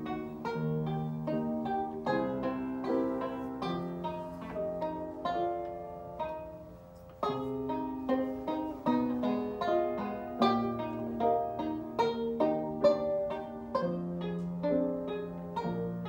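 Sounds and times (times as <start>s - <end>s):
plucked banjo notes: 0.0s - 16.0s
sustained piano notes: 0.0s - 16.0s.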